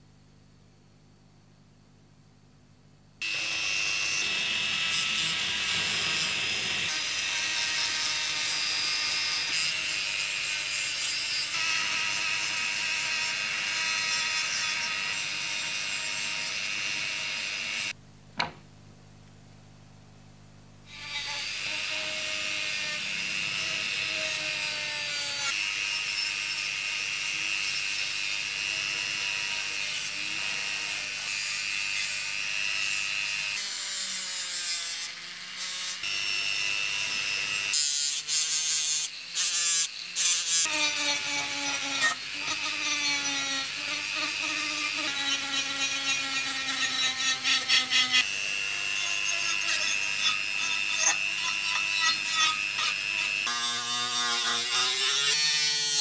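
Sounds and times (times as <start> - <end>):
rotary tool high whine: 3.2 - 18.0, 20.9 - 56.0.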